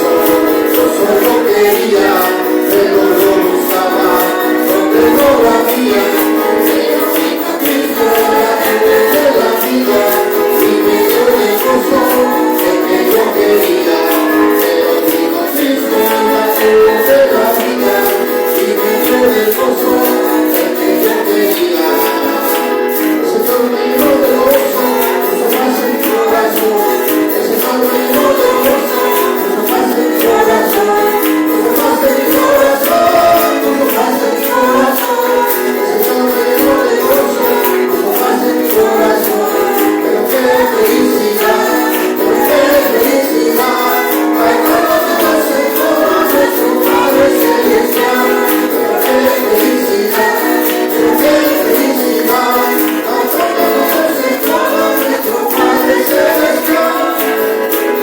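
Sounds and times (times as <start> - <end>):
congregation singing: 0.0 - 58.0
percussion beat: 0.0 - 58.0.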